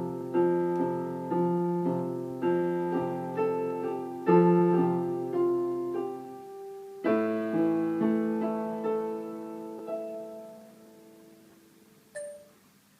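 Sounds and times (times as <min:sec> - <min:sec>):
piano notes and chords: 0:00.0 - 0:12.6.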